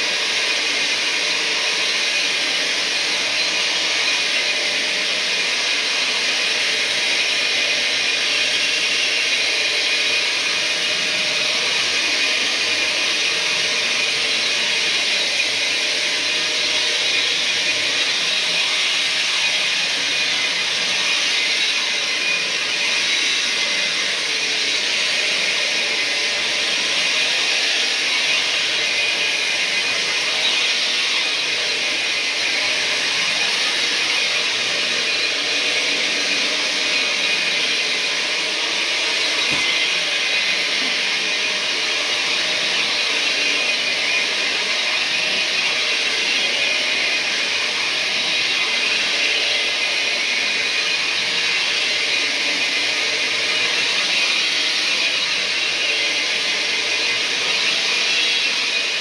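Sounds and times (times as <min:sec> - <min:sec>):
carpet cleaning machine motor hiss: 0:00.0 - 0:59.0.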